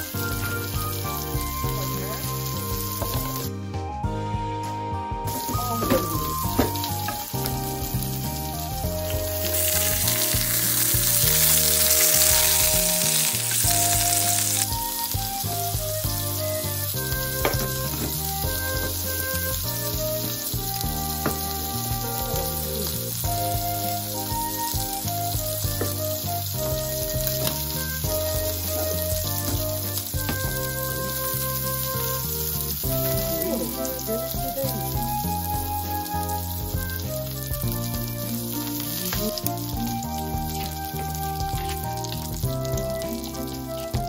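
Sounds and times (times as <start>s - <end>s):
food sizzling in a pan: 0.0s - 3.6s, 5.3s - 44.0s
background music: 0.0s - 44.0s.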